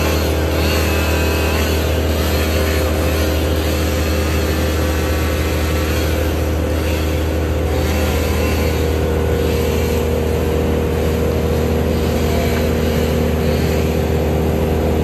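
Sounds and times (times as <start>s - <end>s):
brush chipper engine: 0.0s - 15.0s
mini loader engine: 0.0s - 15.0s.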